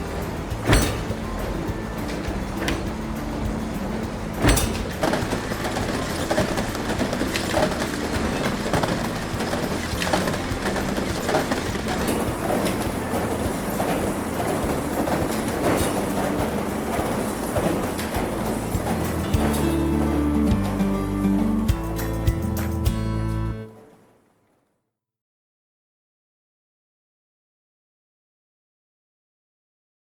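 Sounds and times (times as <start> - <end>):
pumping rig metallic clatter: 0.0 - 24.1.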